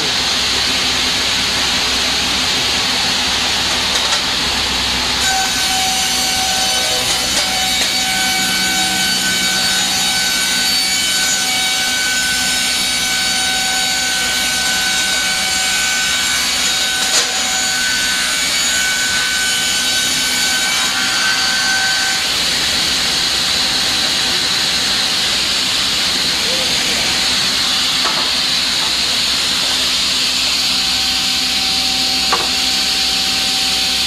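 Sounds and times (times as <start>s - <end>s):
circular saw whining: 1.0s - 34.0s.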